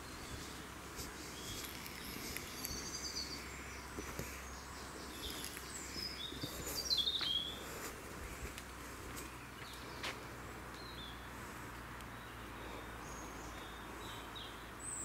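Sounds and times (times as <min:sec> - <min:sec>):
birds chirping and singing: 0:00.0 - 0:08.5, 0:09.2 - 0:15.0
faint outdoor rumble: 0:00.0 - 0:15.0.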